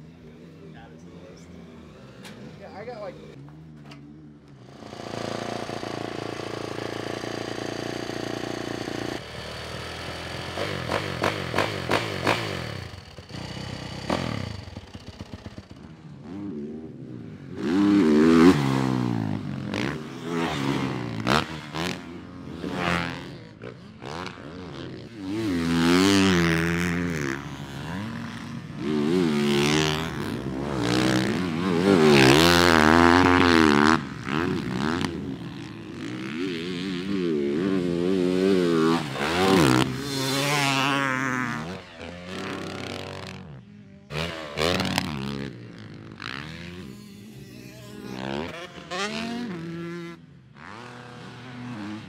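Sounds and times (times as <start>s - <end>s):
dirt bike engines revving past: 0.0s - 52.0s.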